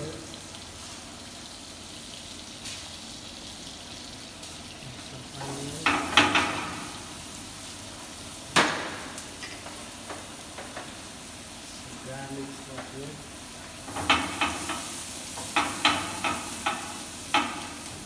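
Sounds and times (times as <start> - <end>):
onion sizzling in a frying pan: 0.0 - 18.0.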